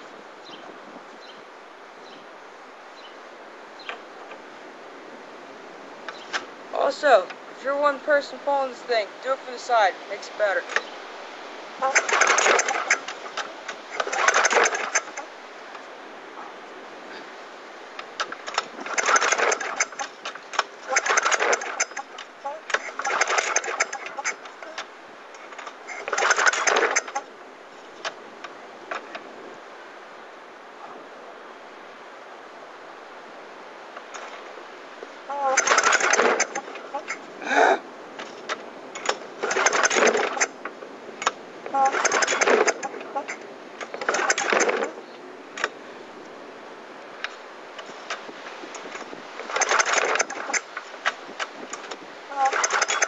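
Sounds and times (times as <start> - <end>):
lawn mower engine turning over: 5.5 - 29.5, 33.8 - 53.0.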